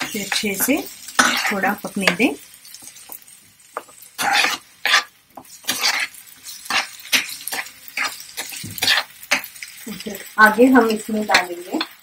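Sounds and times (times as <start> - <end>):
spatula scraping pan: 0.0 - 12.0
vegetables frying: 0.0 - 12.0.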